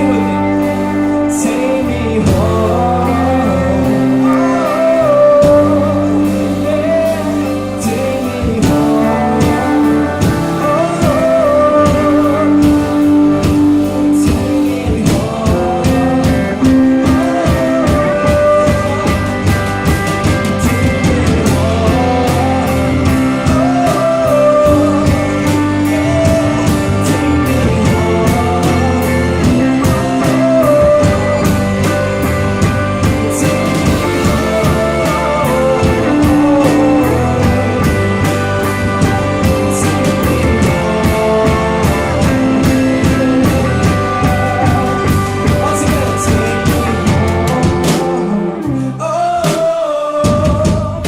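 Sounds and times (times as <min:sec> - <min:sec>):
electric guitar lead: 0:00.0 - 0:49.8
bass guitar: 0:00.0 - 0:51.0
steady drum beat: 0:00.0 - 0:51.0.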